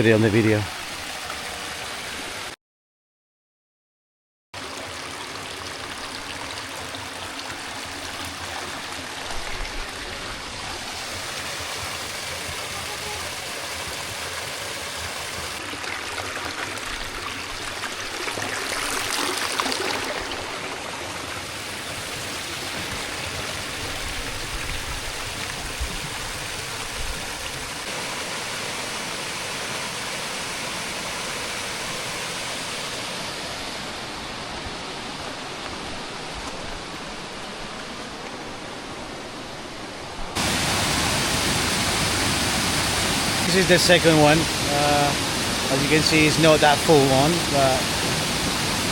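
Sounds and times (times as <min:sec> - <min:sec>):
stream water flowing: 0:00.0 - 0:02.6, 0:04.6 - 0:48.9.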